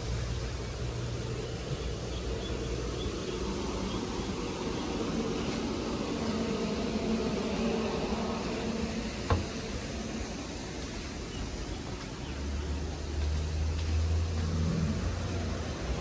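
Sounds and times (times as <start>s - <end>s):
faint engine hum: 0.0s - 16.0s
outdoor background noise: 0.0s - 16.0s.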